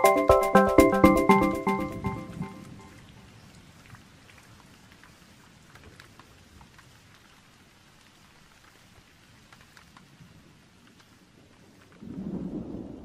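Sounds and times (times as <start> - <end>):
faint rain falling: 0.0 - 13.0
individual raindrops: 0.0 - 13.0.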